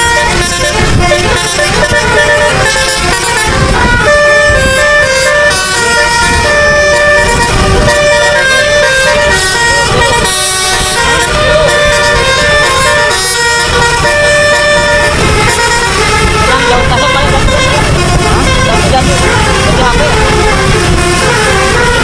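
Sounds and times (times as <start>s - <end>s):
low rumbling noise: 0.0s - 22.0s
musical air horn playing a tune: 0.0s - 22.0s.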